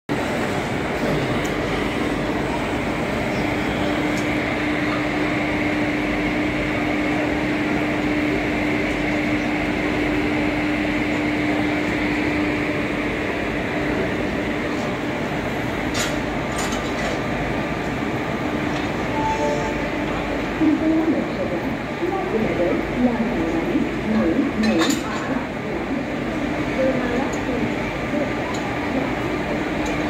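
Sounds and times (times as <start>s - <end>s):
locomotive machinery rushing hum: 0.1s - 30.0s.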